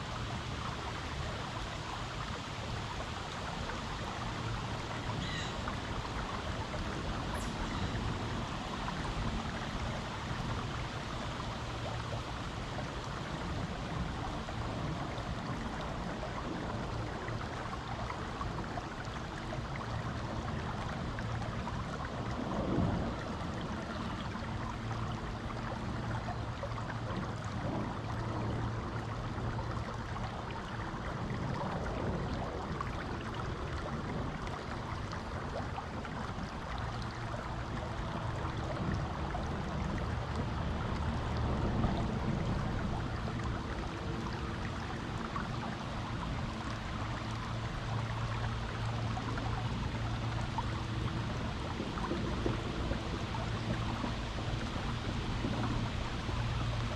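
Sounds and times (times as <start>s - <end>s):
creek water flowing over rocks: 0.0s - 56.9s.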